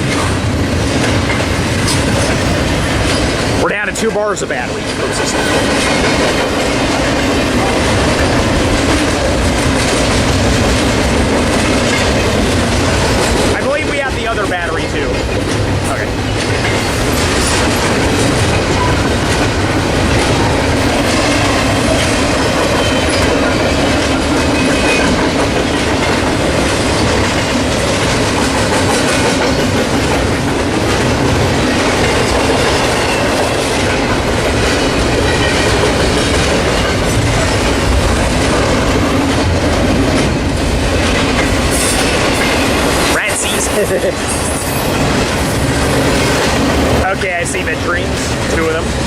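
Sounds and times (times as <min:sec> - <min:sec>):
freight train wheels clattering: 0:00.0 - 0:49.0.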